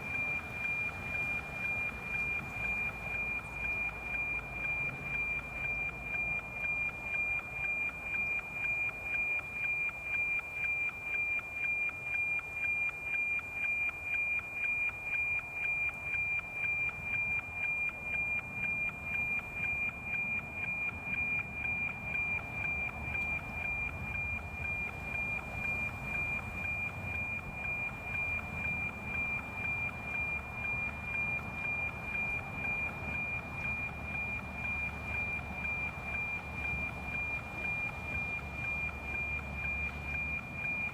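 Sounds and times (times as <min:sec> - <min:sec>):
satellite signal tone with ticking: 0:00.0 - 0:40.9.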